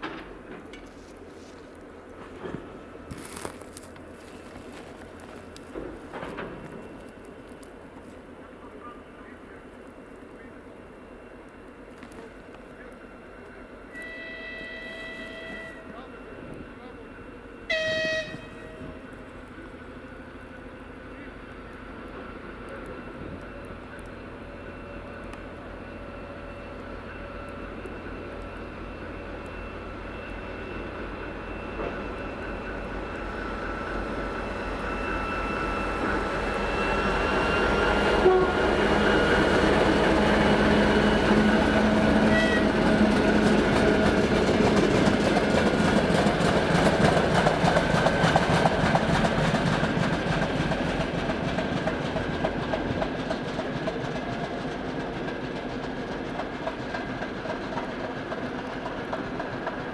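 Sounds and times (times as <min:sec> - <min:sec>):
diesel locomotive engine whining: 0:00.0 - 0:59.9.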